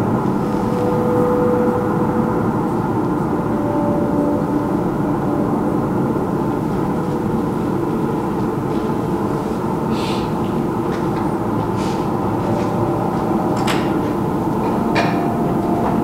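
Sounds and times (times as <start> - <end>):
dense steady drone: 0.0 - 16.0.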